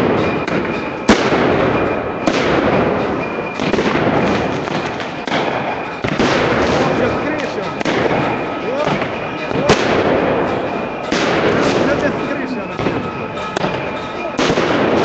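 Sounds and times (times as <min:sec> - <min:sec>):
crowd din: 0:00.0 - 0:15.0
sharp explosive bang: 0:00.0 - 0:15.0.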